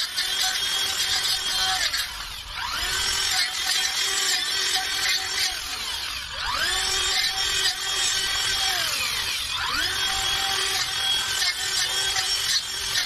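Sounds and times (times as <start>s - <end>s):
electric chainsaw whining: 0.0s - 13.0s.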